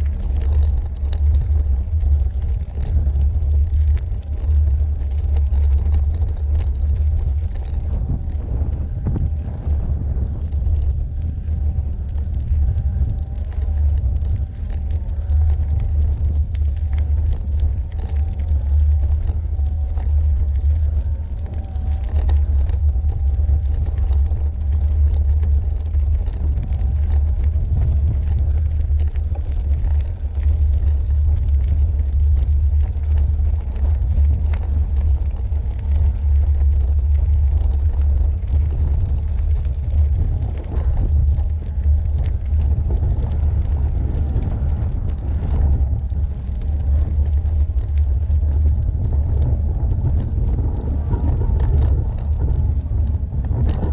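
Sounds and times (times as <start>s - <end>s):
bike tyres rumbling on gravel: 0.0s - 53.9s
wind buffeting microphone: 0.0s - 53.9s.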